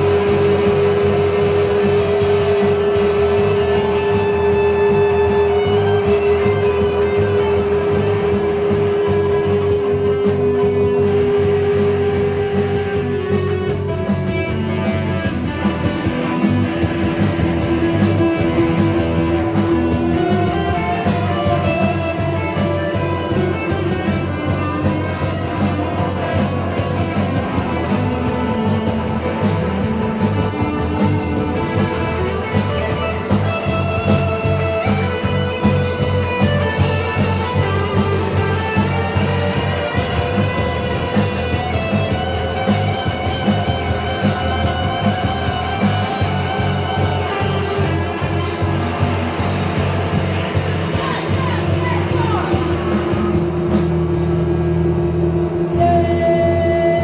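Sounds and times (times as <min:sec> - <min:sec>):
drum kit beat: 0:00.0 - 0:57.0
guitar held notes: 0:00.0 - 0:57.0.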